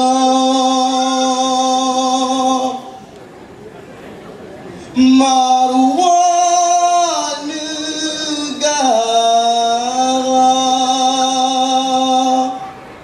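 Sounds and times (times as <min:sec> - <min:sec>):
man singing into a microphone: 0:00.0 - 0:03.1, 0:04.9 - 0:12.8.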